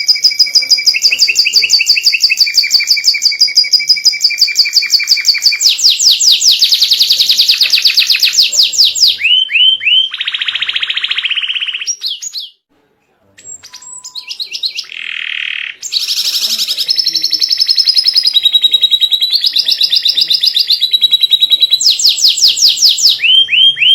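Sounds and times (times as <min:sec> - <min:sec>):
canary singing trills: 0:00.0 - 0:12.6, 0:13.4 - 0:23.9.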